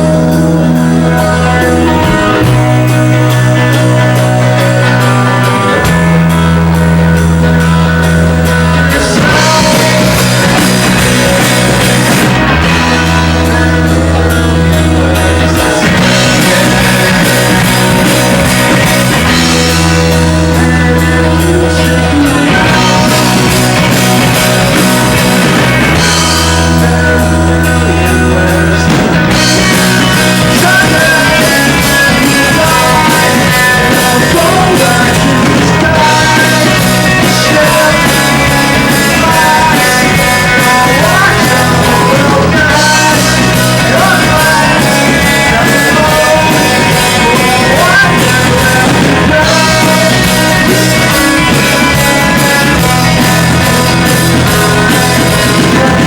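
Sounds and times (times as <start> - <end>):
live rock band: 0.0 - 56.0
person singing: 0.0 - 56.0.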